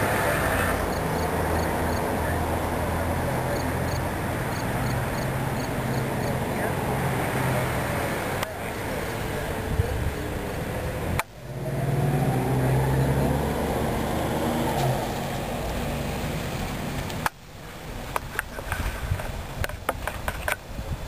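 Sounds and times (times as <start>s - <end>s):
car driving past: 0.0s - 17.3s.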